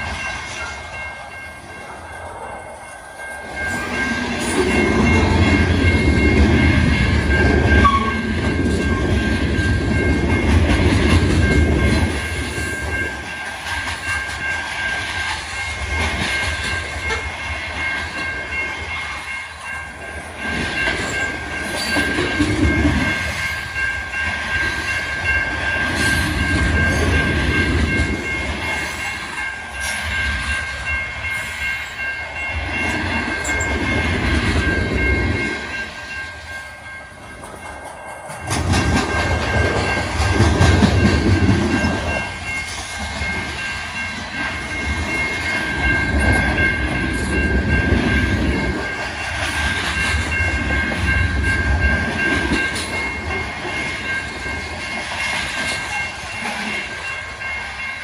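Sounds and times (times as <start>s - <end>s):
freight train wheels rumbling: 0.0s - 58.0s
grade-crossing bell ringing: 0.0s - 58.0s.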